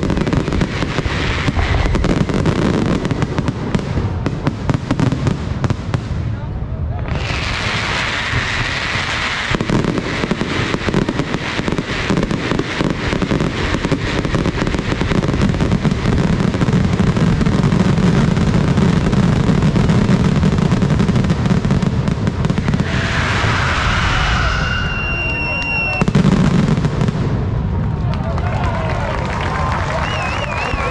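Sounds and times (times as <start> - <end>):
fireworks crackling: 0.0 - 30.9.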